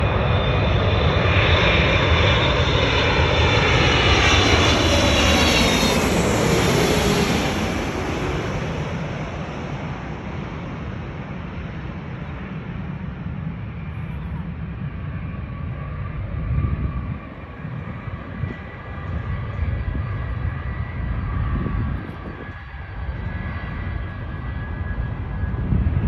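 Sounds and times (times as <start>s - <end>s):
jet engine roar passing: 0.0s - 26.0s.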